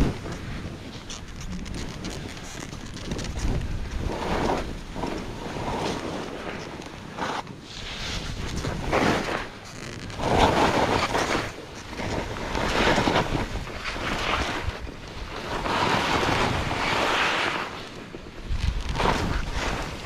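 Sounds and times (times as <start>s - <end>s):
skis swooshing through snow: 0.0s - 20.0s
wind buffeting the microphone: 0.0s - 20.0s.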